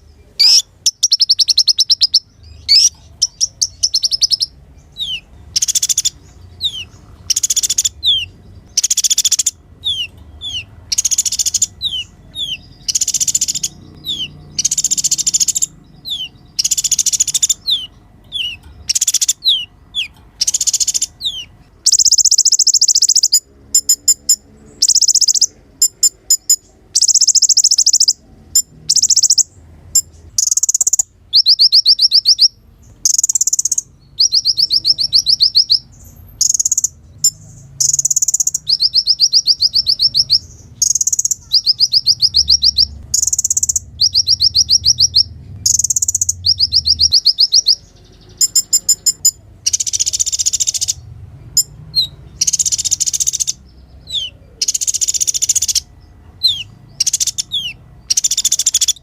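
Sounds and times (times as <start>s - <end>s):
sunbird twittering and trilling: 0.0s - 59.0s.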